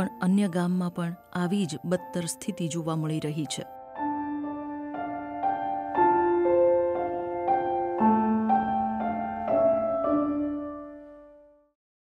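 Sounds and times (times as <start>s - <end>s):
slow piano-like music: 0.0s - 11.8s.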